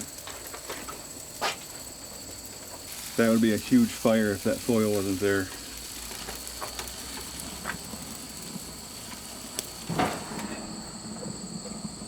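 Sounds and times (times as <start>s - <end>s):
chicken wings sizzling on grill: 0.0s - 12.0s
small crackles: 0.0s - 12.0s.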